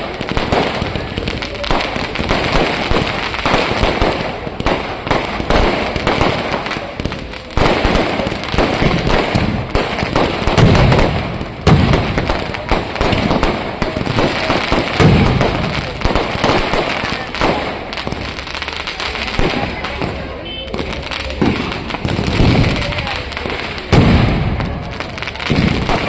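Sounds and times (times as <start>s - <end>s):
firecrackers crackling: 0.0s - 26.0s
firework booms: 0.0s - 26.0s.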